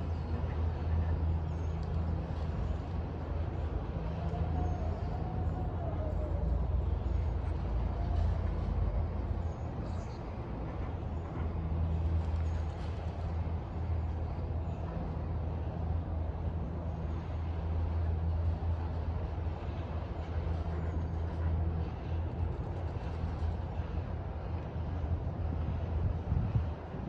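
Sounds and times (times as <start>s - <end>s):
gondola system mechanical hum: 0.0s - 27.0s.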